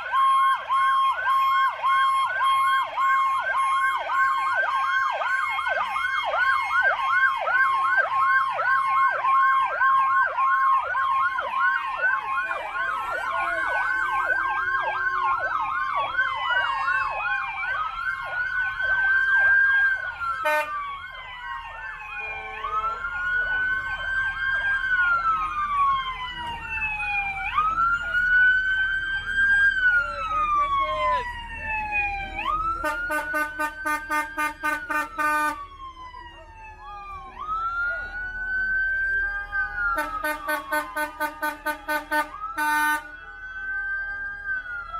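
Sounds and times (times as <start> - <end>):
emergency sirens yelping and wailing: 0.0 - 44.9.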